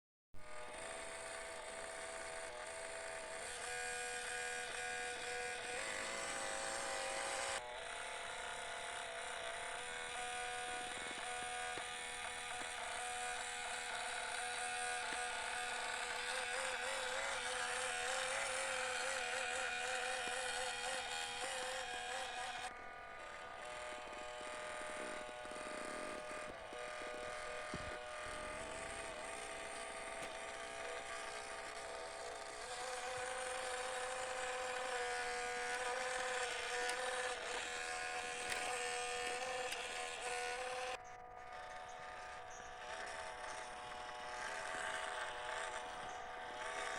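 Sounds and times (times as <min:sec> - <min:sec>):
electric motor and gears whining: 0:00.4 - 0:46.9.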